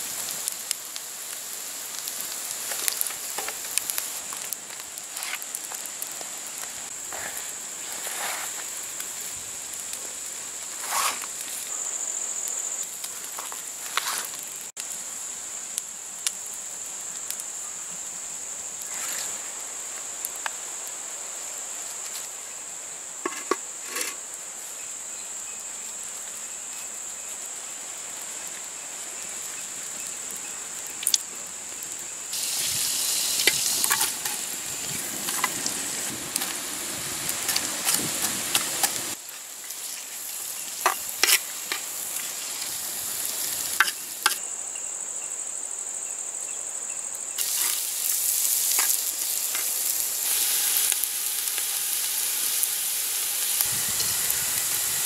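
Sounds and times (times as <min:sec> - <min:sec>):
onions sizzling in hot oil: 0:00.0 - 0:22.6, 0:25.1 - 0:44.4, 0:47.4 - 0:55.0
insects chirring: 0:00.0 - 0:55.0.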